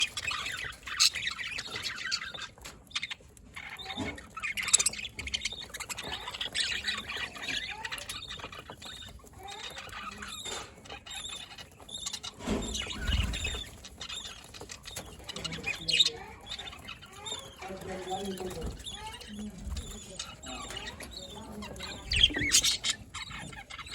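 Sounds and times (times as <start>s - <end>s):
budgies chirping: 0.0s - 23.9s.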